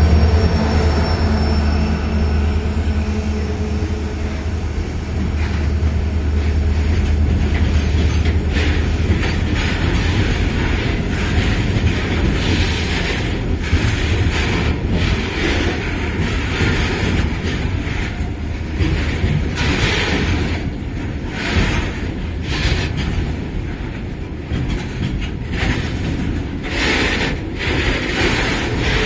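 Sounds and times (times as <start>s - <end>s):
diesel locomotive engines rumbling: 0.0s - 29.0s
train wheels knocking over rail joints: 0.0s - 29.0s.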